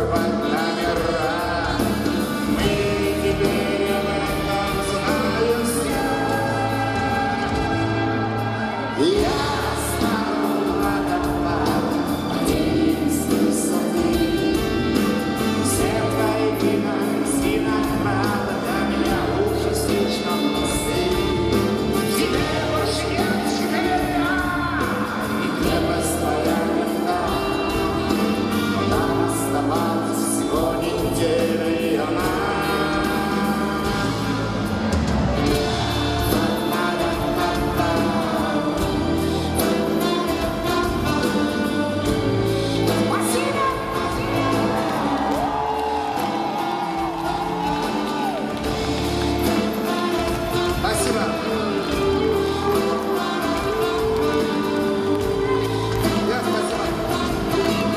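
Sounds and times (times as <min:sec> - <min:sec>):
drums and cymbals beat: 0:00.0 - 0:57.9
live rock band: 0:00.0 - 0:57.9
man singing: 0:00.0 - 0:57.9.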